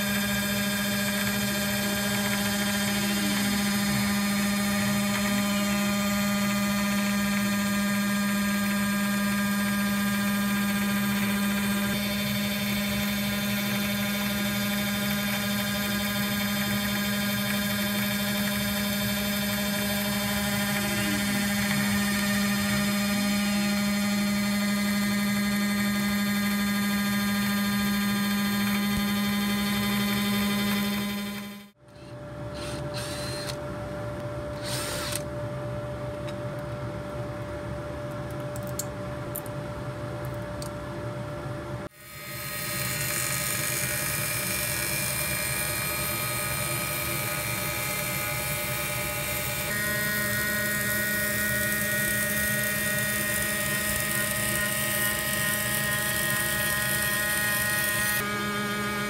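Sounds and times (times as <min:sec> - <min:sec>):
router spindle motor whine: 0:00.0 - 0:33.6, 0:34.5 - 0:35.3, 0:41.8 - 0:59.0.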